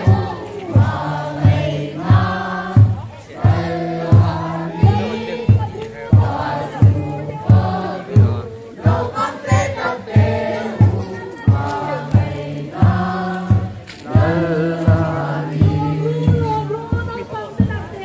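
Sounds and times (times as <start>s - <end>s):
congregation singing a hymn: 0.0s - 17.6s
steady drum beat: 0.0s - 18.0s.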